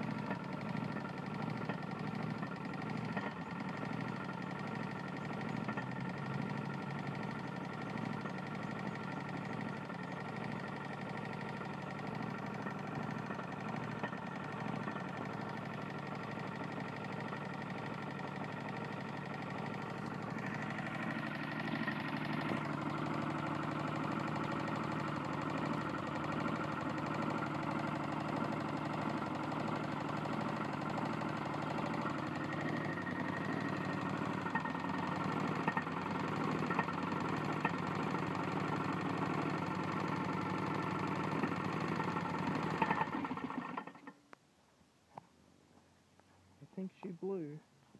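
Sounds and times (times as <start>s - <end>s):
lawn mower engine knocking: 0.0s - 44.2s.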